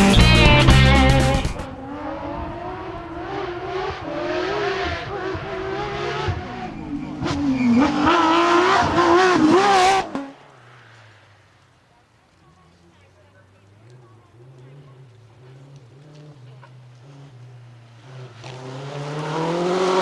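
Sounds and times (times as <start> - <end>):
rally car engine revving: 0.0 - 10.9, 13.6 - 20.0.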